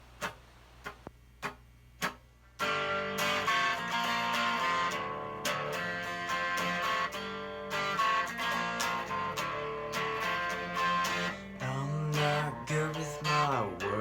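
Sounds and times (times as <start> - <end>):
strummed guitar chords: 1.4 - 14.0.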